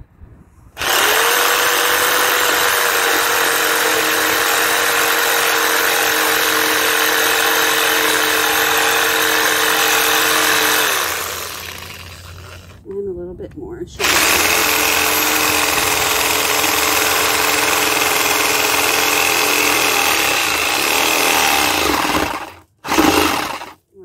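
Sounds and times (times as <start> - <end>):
reciprocating saw cutting wood: 0.8 - 12.8, 14.0 - 23.8
saw motor winding down: 0.8 - 12.8, 14.0 - 23.8.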